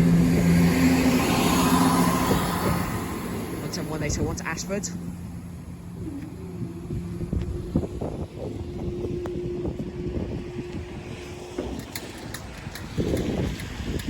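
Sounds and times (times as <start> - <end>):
diesel train rumbling: 0.0 - 14.0.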